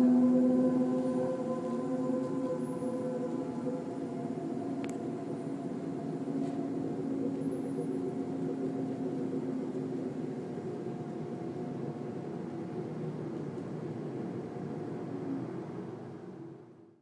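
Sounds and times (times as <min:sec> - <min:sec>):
low droning hum: 0:00.0 - 0:16.8.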